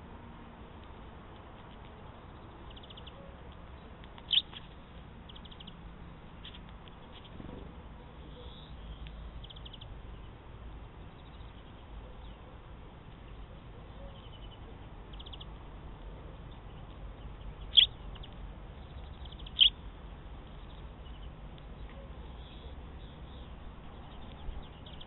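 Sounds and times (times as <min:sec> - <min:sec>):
sparrows chirping: 0:01.8 - 0:25.0.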